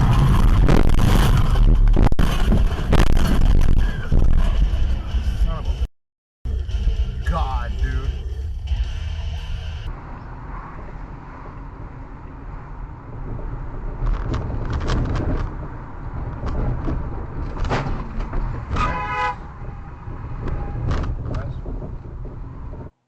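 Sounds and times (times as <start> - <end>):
car engine and road rumble: 0.0 - 5.9, 6.5 - 23.0.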